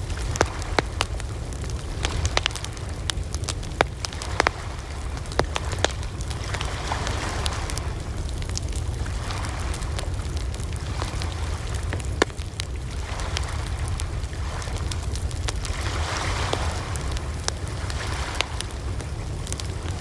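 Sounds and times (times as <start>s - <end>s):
campfire crackling and popping: 0.0s - 20.0s
low rushing of flames: 0.0s - 20.0s.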